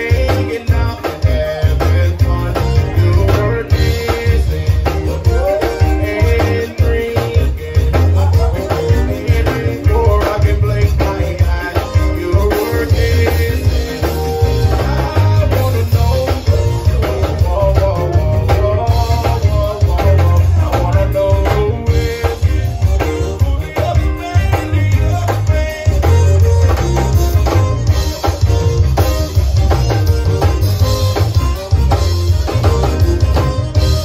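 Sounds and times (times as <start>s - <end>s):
heavy pulsing bass line: 0.0s - 34.0s
zydeco band playing: 0.0s - 34.0s.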